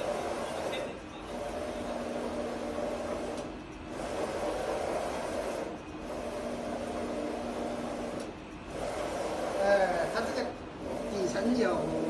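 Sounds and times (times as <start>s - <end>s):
printer carriage whirring: 0.0s - 12.0s.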